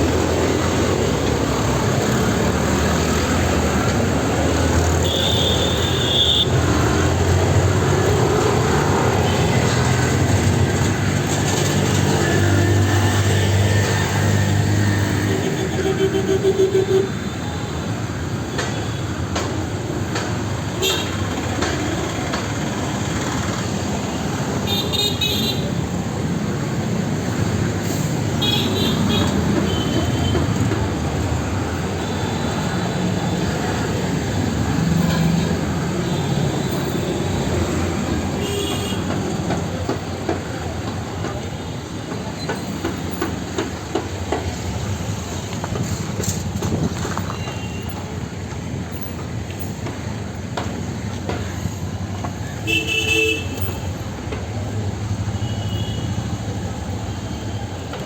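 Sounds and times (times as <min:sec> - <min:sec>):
heavy vehicles rumbling past: 0:00.0 - 0:58.0.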